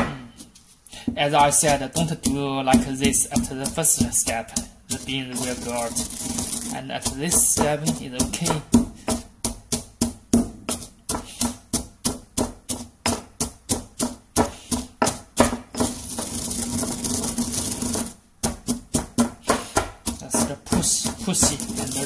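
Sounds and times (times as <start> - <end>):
pestle pounding in stone mortar: 0.0 - 22.0
pestle grinding against stone: 0.3 - 22.0.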